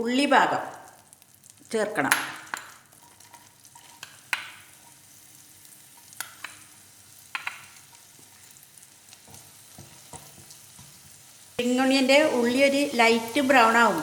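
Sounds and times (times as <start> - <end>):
onions sizzling in butter: 0.1 - 14.0.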